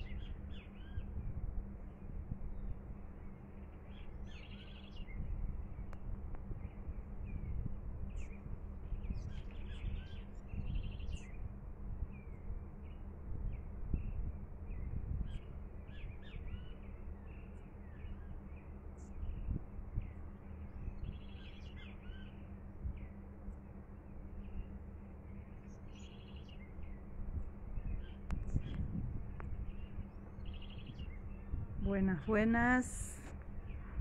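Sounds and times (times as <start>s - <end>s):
small birds chirping: 0.0s - 1.3s, 1.9s - 11.5s, 12.1s - 34.0s
low rumble of outdoor noise: 0.0s - 34.0s.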